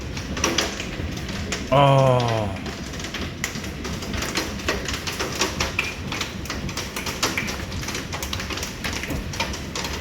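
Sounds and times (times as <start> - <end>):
hail clattering on hard surfaces: 0.0 - 1.7, 2.6 - 10.0.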